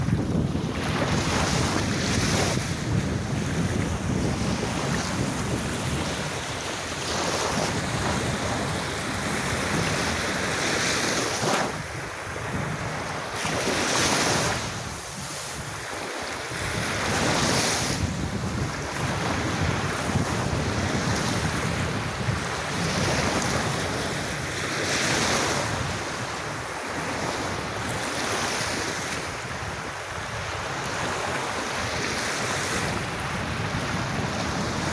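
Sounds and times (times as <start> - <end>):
waves washing onto sand: 0.0 - 34.9
wind on microphone: 0.0 - 34.9.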